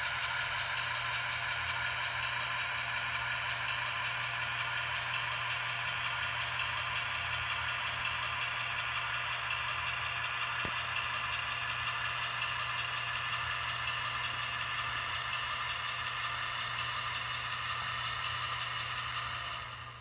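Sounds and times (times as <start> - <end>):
diesel engine sound from small speaker: 0.0 - 20.0.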